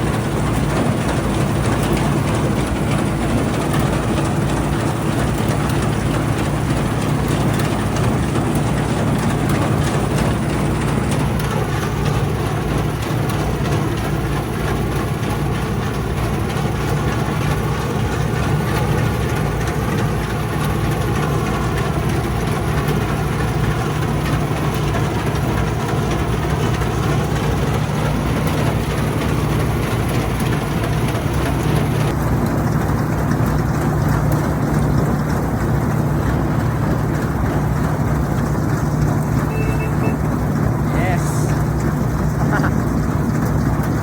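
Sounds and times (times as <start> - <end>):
combine harvester engine drone: 0.0 - 44.0.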